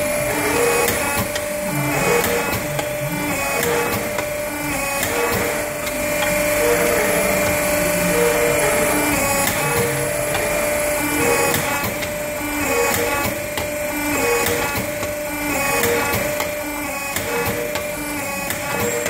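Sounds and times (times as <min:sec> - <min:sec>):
hydraulic unit humming: 0:00.0 - 0:19.0
machine whirring: 0:00.0 - 0:19.0
sharp machine clicks: 0:00.3 - 0:06.7, 0:07.4 - 0:19.0.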